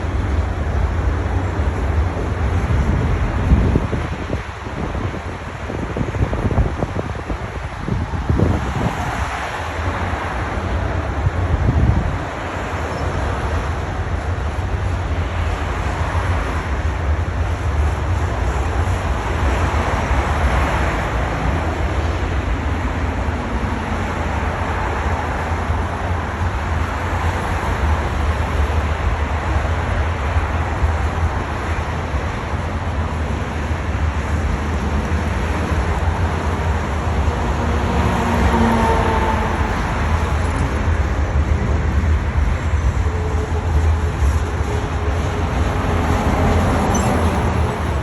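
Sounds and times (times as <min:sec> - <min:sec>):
freight train rolling past: 0:08.0 - 0:48.0.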